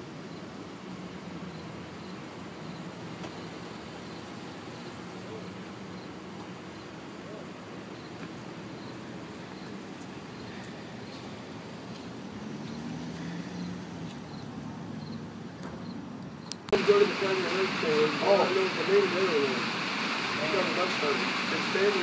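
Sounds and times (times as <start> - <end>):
traffic noise: 0.0 - 22.0
vehicle engine hum: 0.0 - 22.0.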